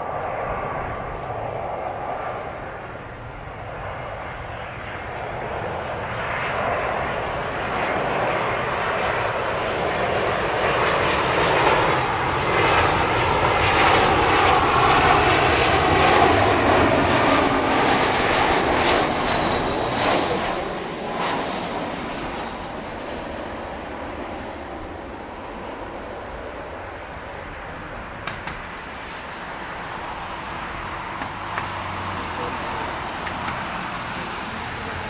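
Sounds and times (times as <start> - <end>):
jet airliner passing overhead: 0.0 - 35.0
jet engine whine falling: 0.0 - 35.0.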